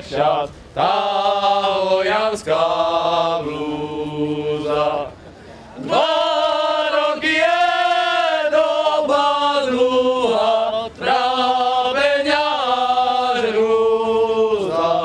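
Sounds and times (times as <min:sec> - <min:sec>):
men singing folk song: 0:00.0 - 0:05.2, 0:05.8 - 0:15.0.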